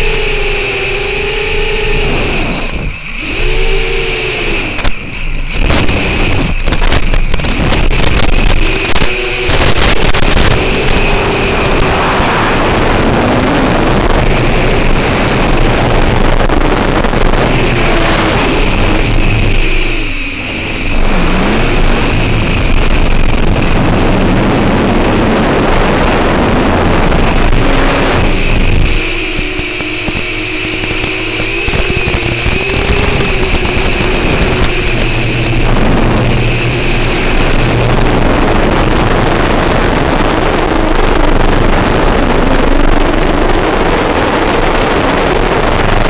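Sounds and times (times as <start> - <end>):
electric motor and propeller: 0.0 - 46.0
wind rush: 0.0 - 46.0.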